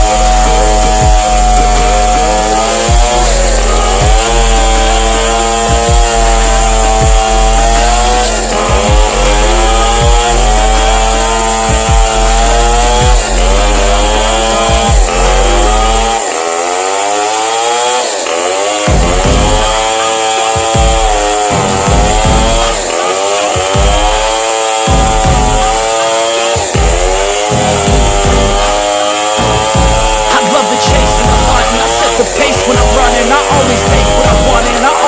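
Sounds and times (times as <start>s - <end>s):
chainsaw cutting through log: 0.0s - 35.0s.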